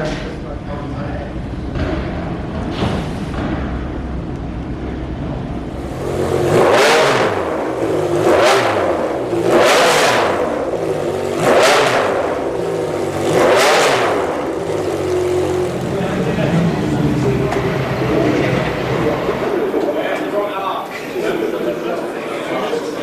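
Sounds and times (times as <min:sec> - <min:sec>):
racing car engine revving: 0:01.4 - 0:20.0.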